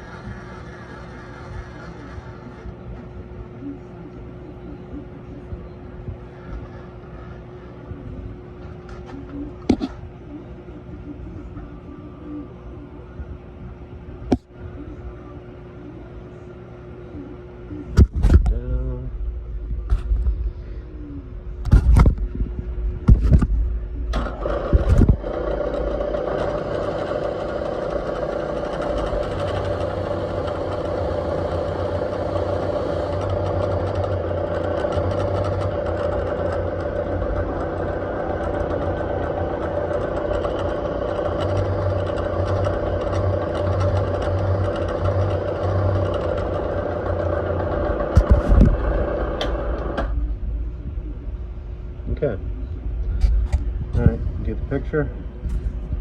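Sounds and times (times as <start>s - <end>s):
shop machine whirring: 0.0s - 13.2s, 13.9s - 56.0s.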